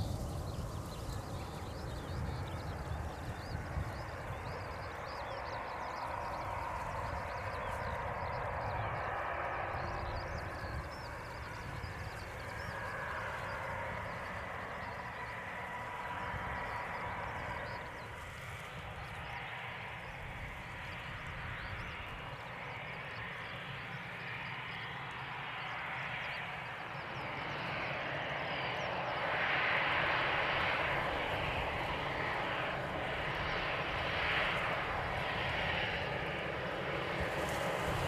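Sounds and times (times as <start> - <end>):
faint engine whine: 0.0 - 38.0
jet engines near idle: 0.0 - 38.0.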